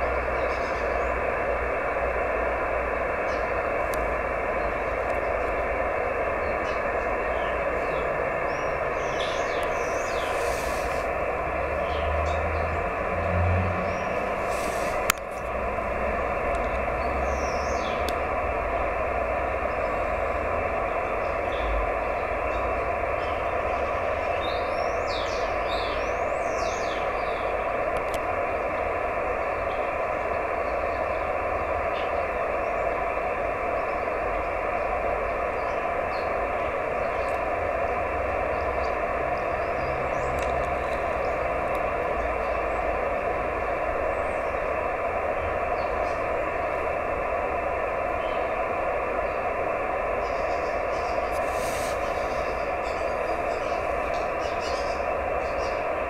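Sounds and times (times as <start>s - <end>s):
receiver noise hiss: 0.0s - 56.0s.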